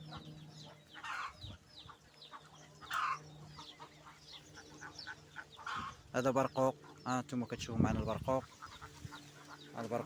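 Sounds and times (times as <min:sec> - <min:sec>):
hens clucking: 0:00.0 - 0:10.0
small birds chirping: 0:00.0 - 0:10.0.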